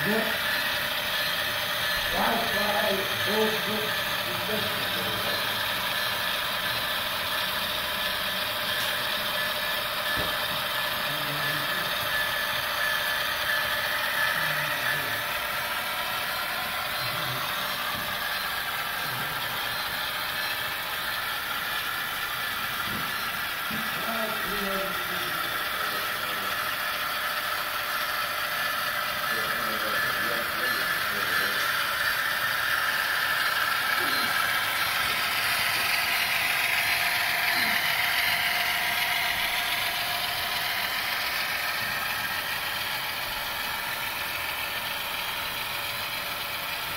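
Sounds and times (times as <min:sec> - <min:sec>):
model train motors whirring: 0:00.0 - 0:46.9.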